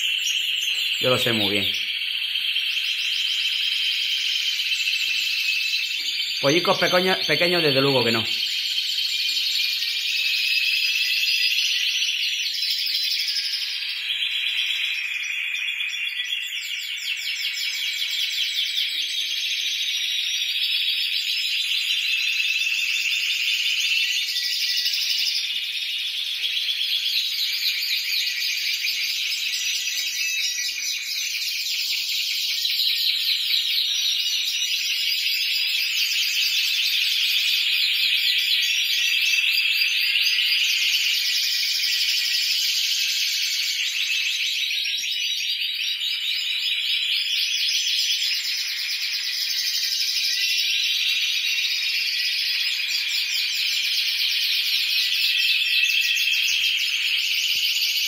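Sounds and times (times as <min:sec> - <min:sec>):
canaries singing trills: 0:00.0 - 0:58.0.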